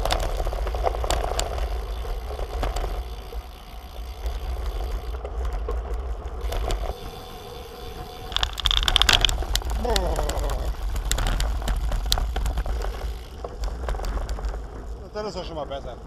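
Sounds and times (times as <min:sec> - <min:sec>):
bike frame rattling: 0:00.0 - 0:16.0
bike tyres crunching on gravel: 0:00.0 - 0:16.0
sharp clicks from bumps: 0:00.0 - 0:16.0
steady low rumble: 0:00.0 - 0:16.0.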